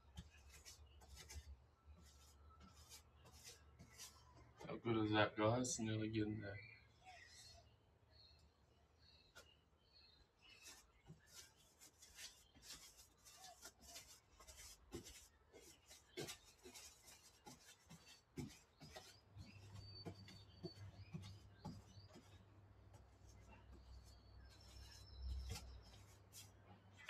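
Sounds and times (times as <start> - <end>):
paintbrush strokes on sheet metal: 0.0 - 5.8, 10.4 - 27.0.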